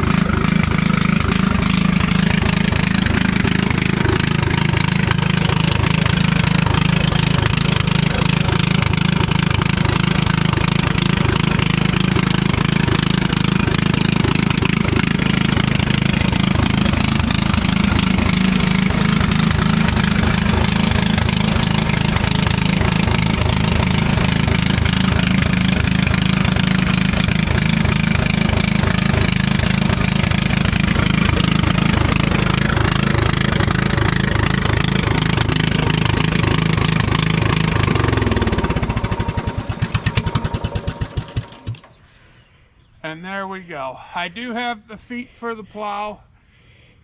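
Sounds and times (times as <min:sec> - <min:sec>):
unmuffled engine running: 0:00.0 - 0:42.1.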